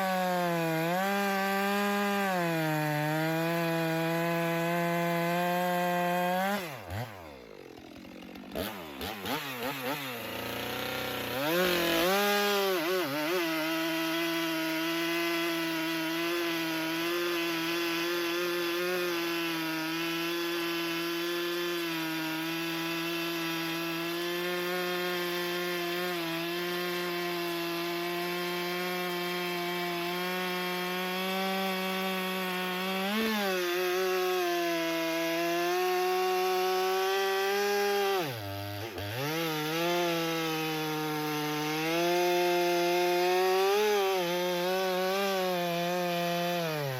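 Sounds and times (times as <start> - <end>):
chainsaw cutting log: 0.0 - 46.9.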